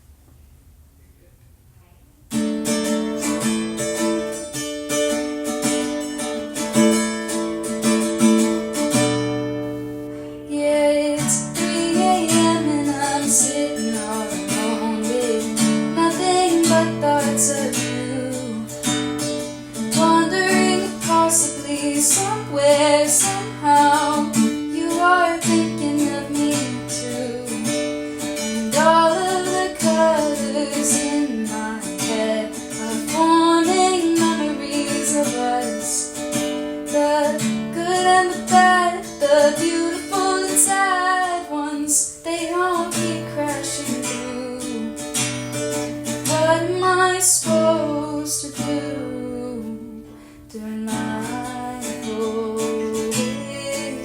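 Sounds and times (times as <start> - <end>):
acoustic guitar strumming chords: 2.3 - 54.0.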